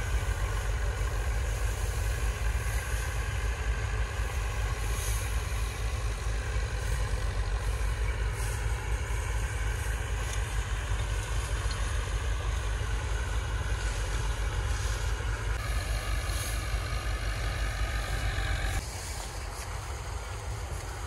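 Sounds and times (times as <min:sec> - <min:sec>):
hiss: 0:00.0 - 0:21.0
motor running with low rumble: 0:00.0 - 0:21.0.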